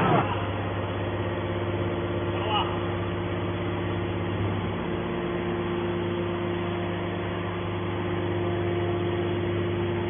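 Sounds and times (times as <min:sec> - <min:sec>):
hydraulic baler humming: 0:00.0 - 0:10.0.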